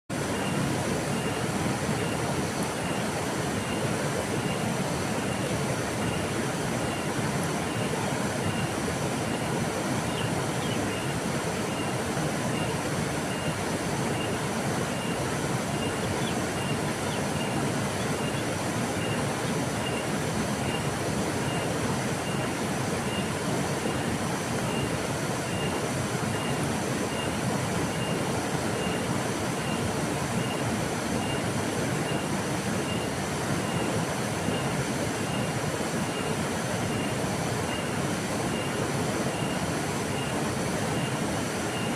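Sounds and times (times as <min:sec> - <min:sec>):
river water rushing: 0:00.1 - 0:41.9.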